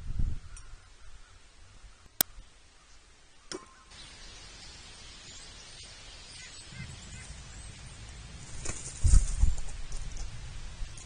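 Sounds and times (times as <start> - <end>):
faint hiss: 1.1 - 11.0.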